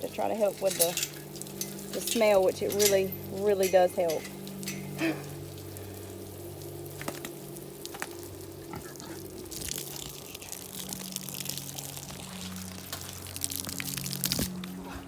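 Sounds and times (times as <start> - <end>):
water hissing and rushing: 0.0 - 14.6
low machine hum: 0.0 - 15.0.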